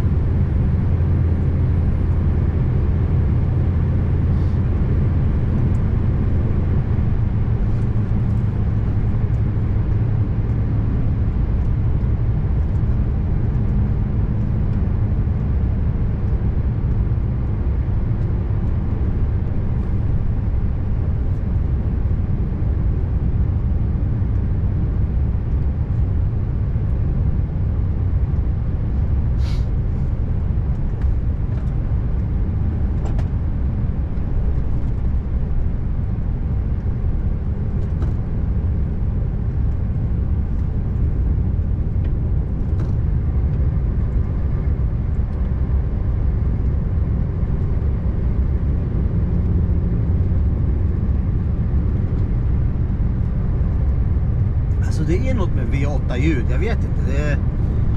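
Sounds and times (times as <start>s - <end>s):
truck engine and road rumble: 0.0s - 57.9s.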